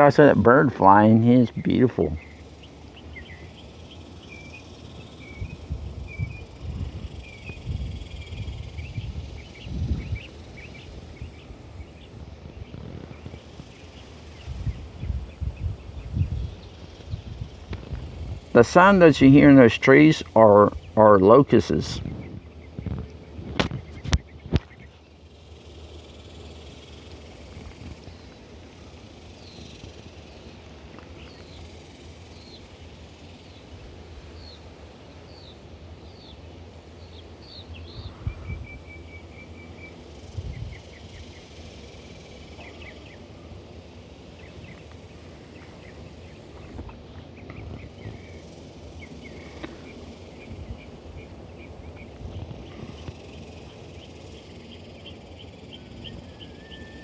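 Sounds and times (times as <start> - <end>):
birds chirping: 0.0 - 57.0
cicadas buzzing: 0.0 - 57.0.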